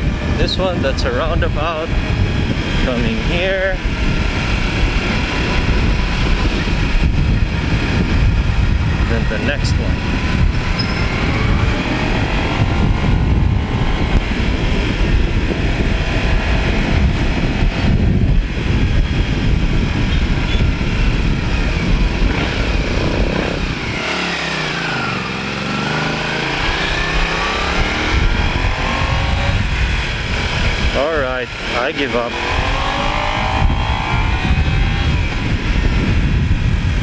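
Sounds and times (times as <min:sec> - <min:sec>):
motorcycle engine riding: 0:00.0 - 0:37.0.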